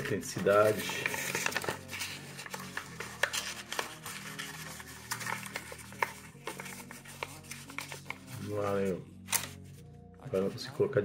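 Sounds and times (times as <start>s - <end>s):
stiff paper crackling: 0.0s - 9.6s.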